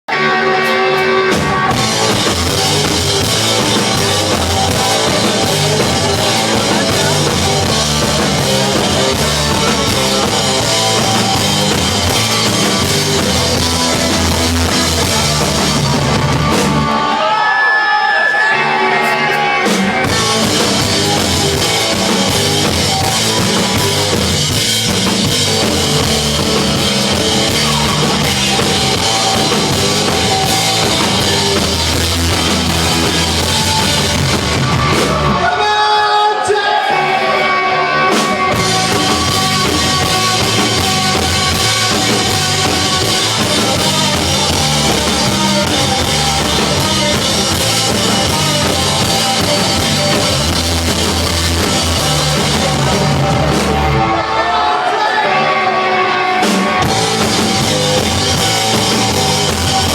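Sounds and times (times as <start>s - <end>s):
bass guitar: 0.0s - 17.3s, 18.4s - 35.6s, 37.0s - 59.9s
drums: 0.0s - 59.9s
electric guitar: 0.1s - 35.7s, 36.9s - 59.9s.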